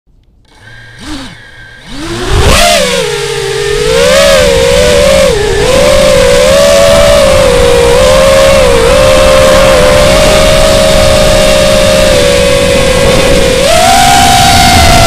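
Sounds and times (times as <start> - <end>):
drone motors whining: 0.4 - 15.0
wind rumble on microphone: 1.0 - 15.0.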